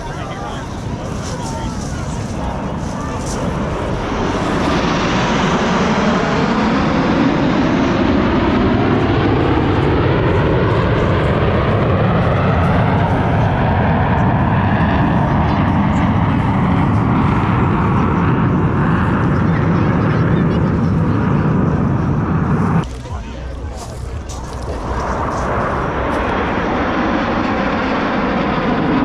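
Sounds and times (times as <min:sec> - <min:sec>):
jet engine roar passing: 0:00.0 - 0:29.0.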